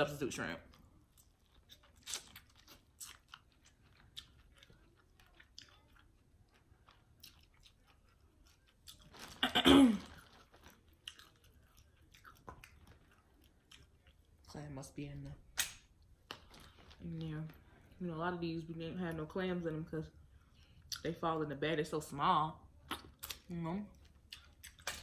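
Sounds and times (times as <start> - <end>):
chewing and crunching food: 0.0 - 21.4, 22.1 - 25.0.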